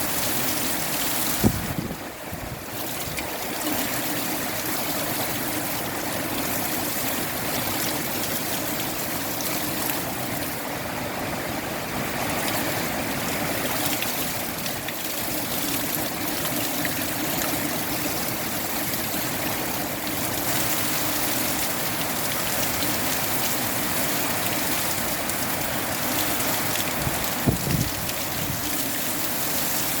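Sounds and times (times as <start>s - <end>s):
steady rain falling: 0.0s - 30.0s
wind: 0.0s - 30.0s.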